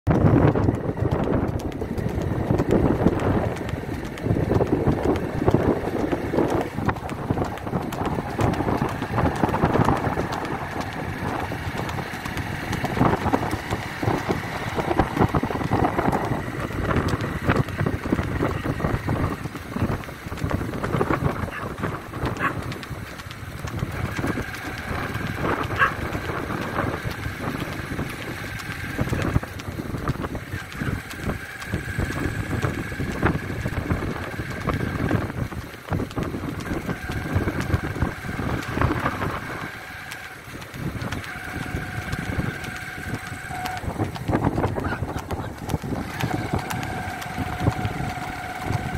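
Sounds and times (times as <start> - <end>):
horse hooves on asphalt: 0.1 - 48.9
vehicle motor: 0.1 - 48.9
wind buffeting microphone: 0.1 - 48.9.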